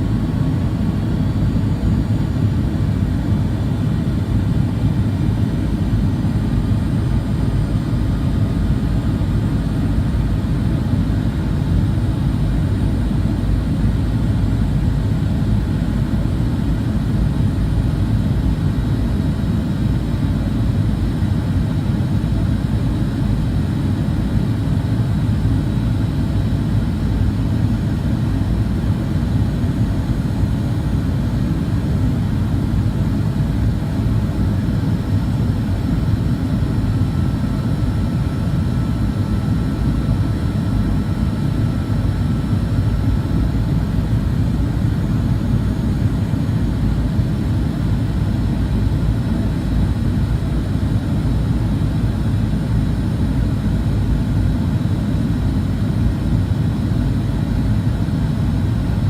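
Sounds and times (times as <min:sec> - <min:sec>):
jet engine rumble in cabin: 0:00.0 - 0:59.0.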